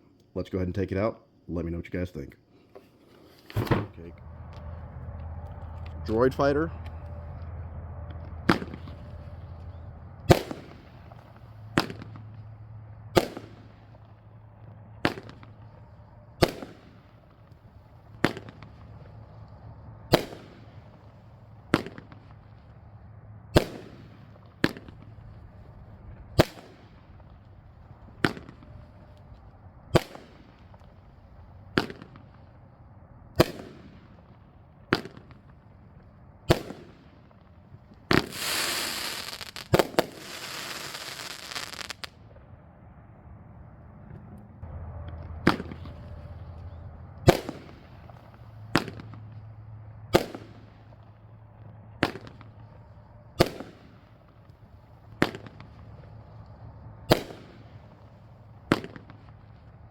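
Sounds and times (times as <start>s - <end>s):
firework bangs: 3.5s - 32.6s, 33.4s - 42.2s, 45.2s - 59.9s.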